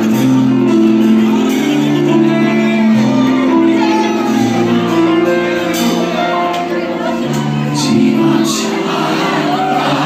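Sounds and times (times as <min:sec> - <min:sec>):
live band with electric guitar: 0:00.0 - 0:10.0.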